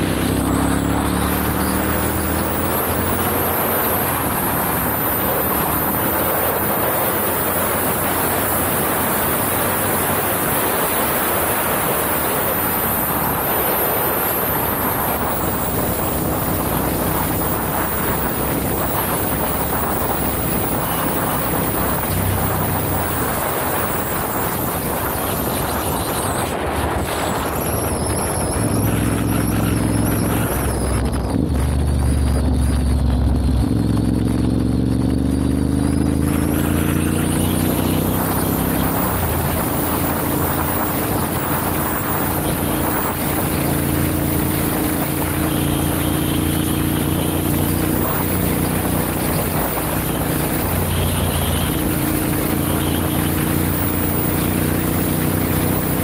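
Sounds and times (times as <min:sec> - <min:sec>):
motorcycle engine running: 0:00.0 - 0:56.0
wind over microphone: 0:00.0 - 0:56.0.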